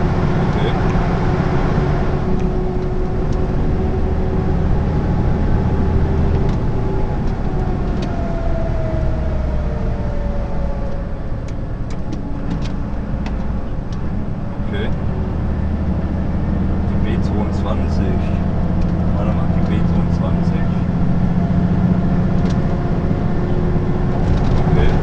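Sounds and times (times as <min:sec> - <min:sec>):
engine drone: 0:00.0 - 0:25.0
tyre and road noise: 0:00.0 - 0:25.0.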